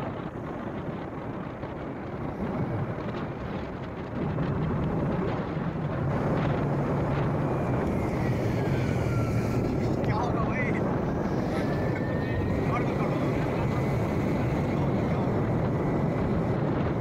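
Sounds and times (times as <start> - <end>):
motorcycle engine humming: 0.0 - 17.0
wind rushing over microphone: 0.0 - 17.0.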